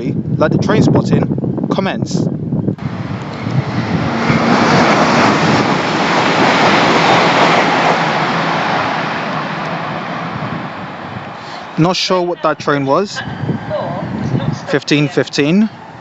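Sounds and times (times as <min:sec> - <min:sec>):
train passing at speed: 0:02.8 - 0:16.0.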